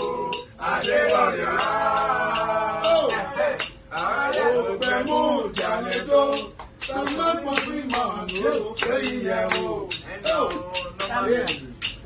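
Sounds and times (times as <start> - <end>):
men singing: 0.0 - 11.8
rhythmic percussive beat: 0.0 - 12.0.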